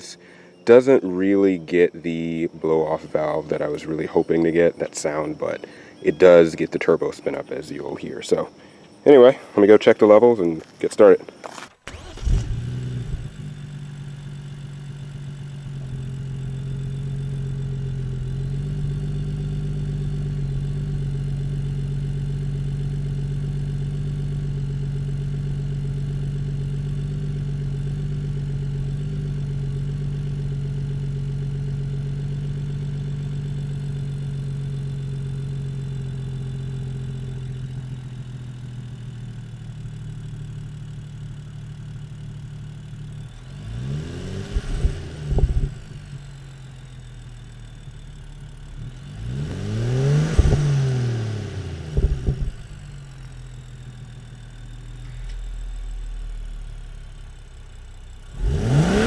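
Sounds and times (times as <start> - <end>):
car engine idling: 0.0 - 9.0, 11.4 - 59.0.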